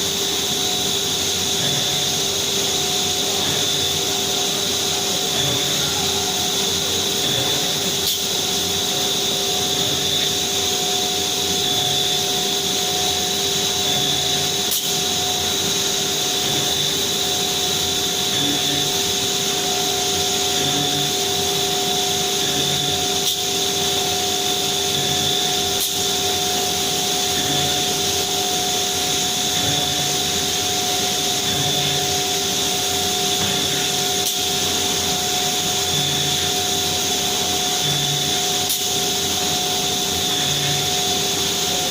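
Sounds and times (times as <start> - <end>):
router spindle whine: 0.0 - 41.9.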